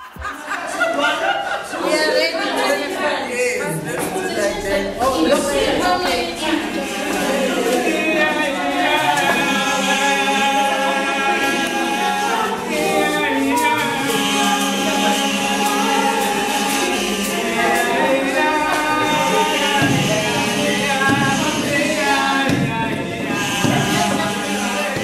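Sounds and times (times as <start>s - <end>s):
group singing unaccompanied: 0.0s - 25.0s.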